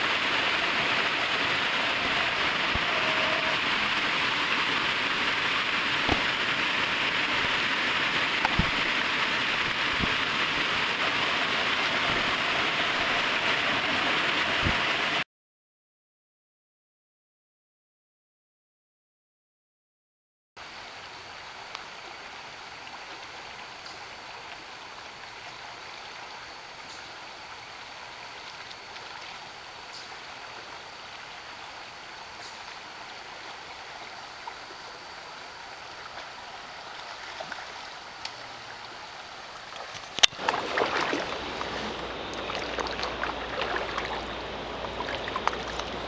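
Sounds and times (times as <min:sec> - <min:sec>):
stream rushing over rocks: 0:00.0 - 0:15.2, 0:20.6 - 0:46.0.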